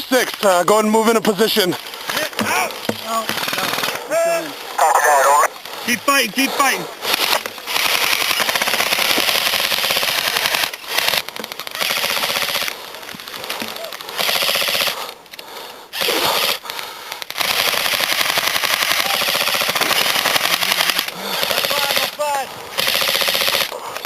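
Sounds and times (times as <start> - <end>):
airsoft guns rapid fire: 0.0 - 4.1, 5.2 - 15.1, 15.9 - 24.0.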